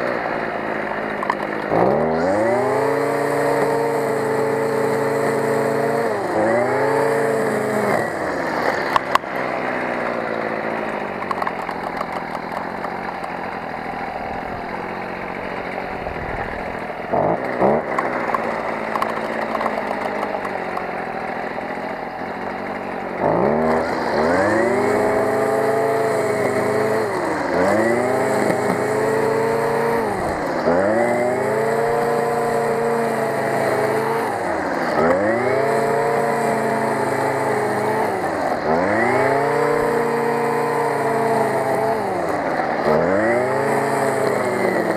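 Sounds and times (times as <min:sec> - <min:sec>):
brush cutter engine cutting grass: 0:00.0 - 0:44.9.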